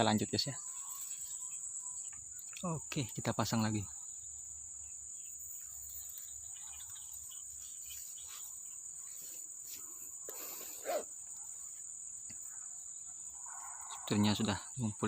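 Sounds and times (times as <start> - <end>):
insects shrilling: 0.0 - 15.0.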